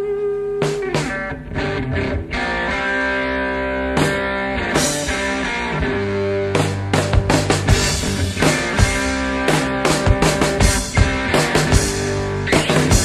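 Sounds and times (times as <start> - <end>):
rock guitar chords ringing: 0.0 - 13.0.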